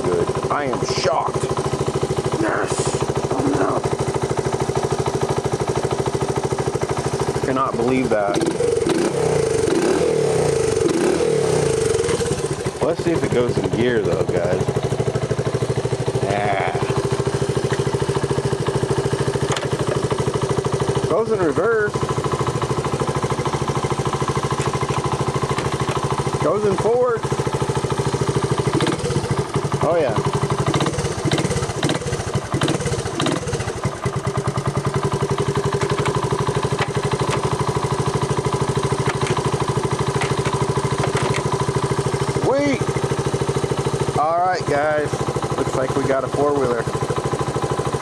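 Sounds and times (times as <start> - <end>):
quad bike engine idling: 0.0 - 48.0.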